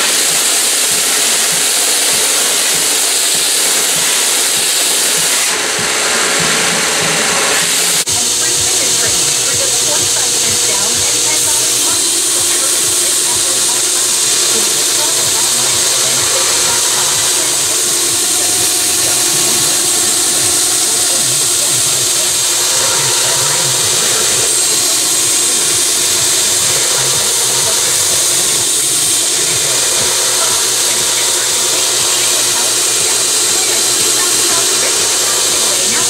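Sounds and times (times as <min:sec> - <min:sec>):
belt grinder hissing: 0:00.0 - 0:36.0.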